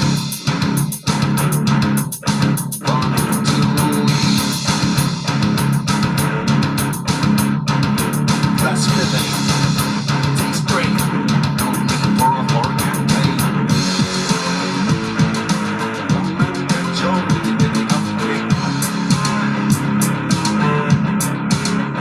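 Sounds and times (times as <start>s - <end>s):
live rock band instrumental: 0.0s - 22.0s.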